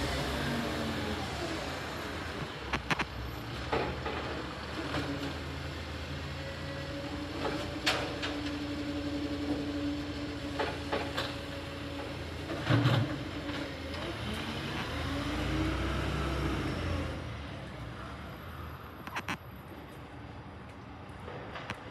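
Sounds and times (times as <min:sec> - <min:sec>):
garbage truck engine whine: 0:00.0 - 0:17.8.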